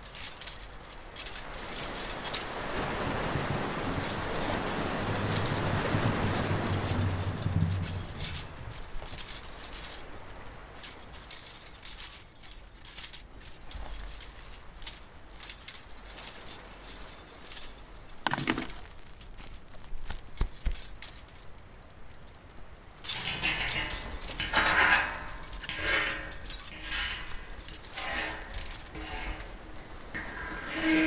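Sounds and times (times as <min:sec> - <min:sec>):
light clinks of wire ring: 0:00.0 - 0:31.0
rope rustling: 0:00.0 - 0:31.0.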